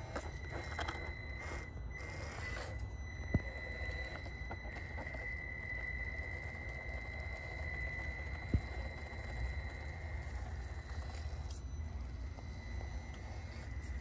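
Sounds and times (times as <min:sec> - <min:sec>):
electric drivetrain whining: 0:00.0 - 0:14.0.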